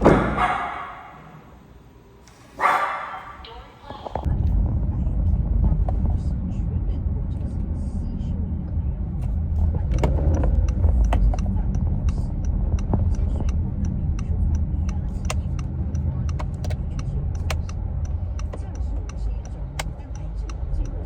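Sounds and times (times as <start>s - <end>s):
car rumbling in motion: 0.0s - 2.0s, 2.6s - 21.0s.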